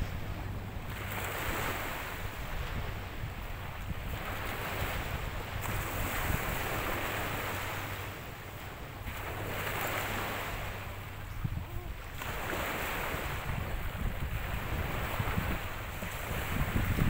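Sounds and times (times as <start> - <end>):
small waves washing in shallows: 0.0 - 17.0
wind rumbling on microphone: 0.0 - 17.0.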